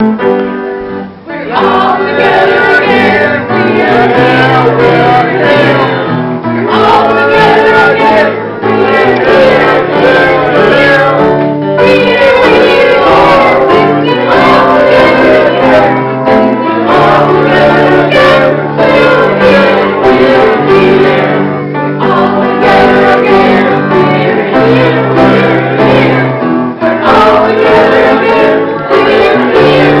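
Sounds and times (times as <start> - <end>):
instrumental accompaniment: 0.0 - 30.0
voices singing together: 1.2 - 30.0.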